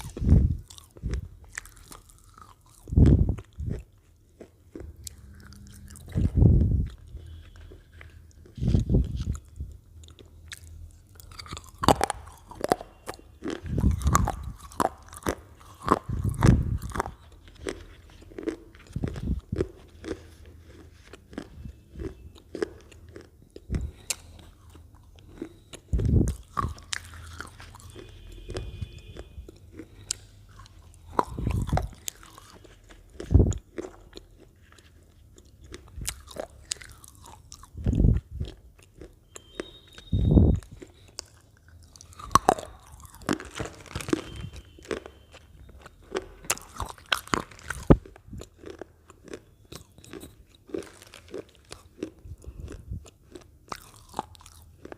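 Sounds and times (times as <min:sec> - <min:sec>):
potato chips crunching: 0:00.0 - 0:54.9
quiet chewing: 0:00.0 - 0:54.9.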